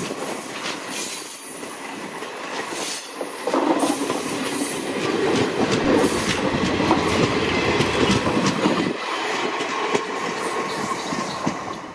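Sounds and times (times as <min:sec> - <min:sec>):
train rumble: 0:00.0 - 0:11.9
train wheels clacking on rails: 0:00.0 - 0:11.9.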